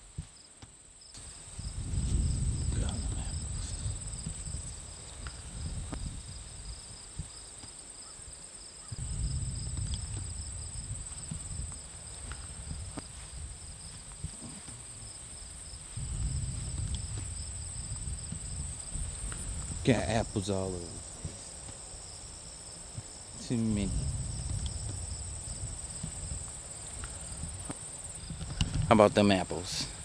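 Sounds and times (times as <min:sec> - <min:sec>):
insects trilling: 0:00.1 - 0:30.0
low rumbling microphone noise: 0:01.2 - 0:07.4, 0:08.9 - 0:30.0.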